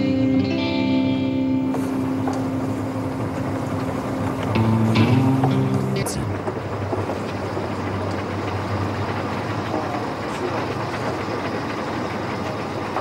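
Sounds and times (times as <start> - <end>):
boat engine hum: 0.0 - 13.0
water wash: 1.7 - 13.0.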